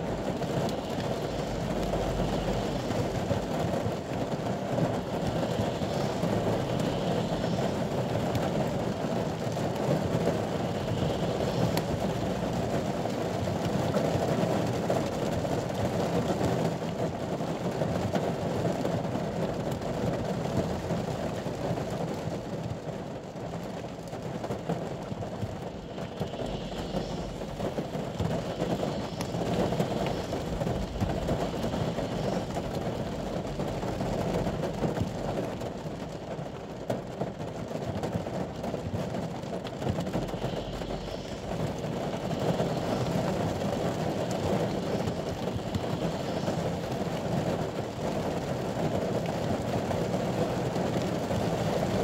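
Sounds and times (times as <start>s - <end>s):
rain on a vehicle roof: 0.0s - 52.0s.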